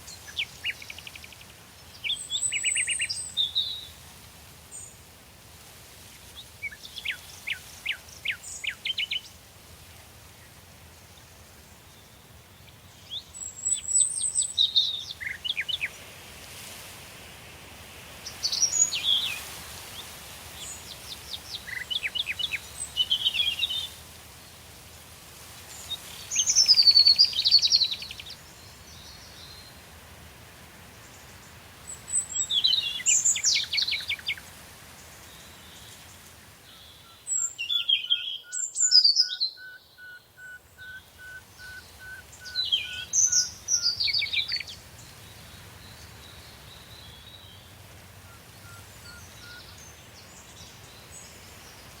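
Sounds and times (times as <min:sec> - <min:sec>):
songbird singing with trill: 0:00.0 - 0:04.0, 0:06.4 - 0:09.4, 0:11.0 - 0:16.0, 0:18.2 - 0:24.0, 0:25.7 - 0:29.8, 0:31.1 - 0:34.5, 0:35.2 - 0:52.0.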